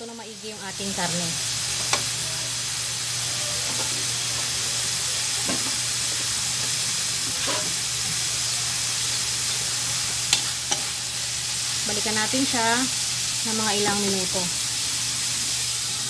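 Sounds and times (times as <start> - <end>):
meat sizzling in a metal pan: 0.0 - 16.0.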